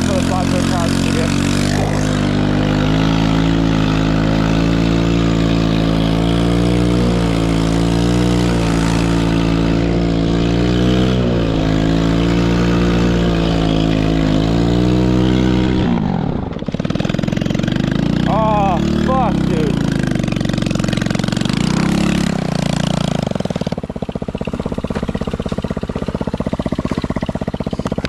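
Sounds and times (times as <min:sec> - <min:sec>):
atv engine at high revs: 0:00.0 - 0:28.0.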